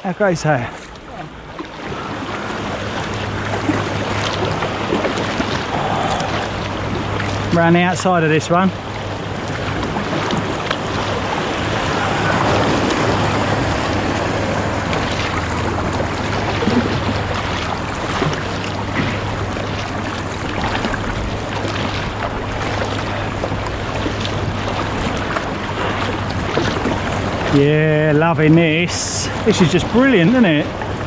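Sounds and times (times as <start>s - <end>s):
water splashing around kayak: 0.0s - 31.0s
wind on microphone: 0.9s - 7.6s, 8.7s - 27.6s.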